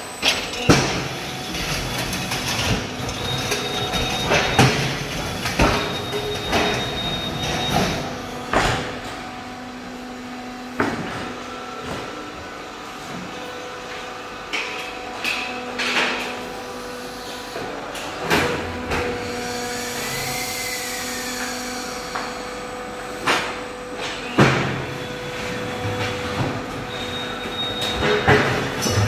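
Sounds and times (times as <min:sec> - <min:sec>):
machinery hum: 0:00.0 - 0:29.0.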